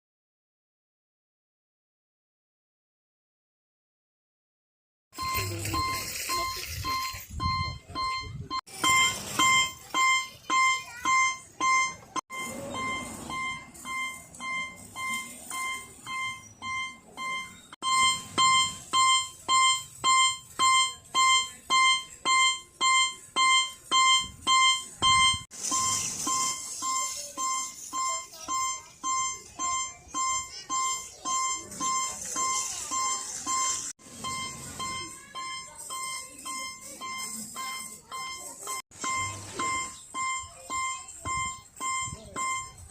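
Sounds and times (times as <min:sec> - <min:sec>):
railroad crossing bell ringing: 0:05.2 - 0:42.9.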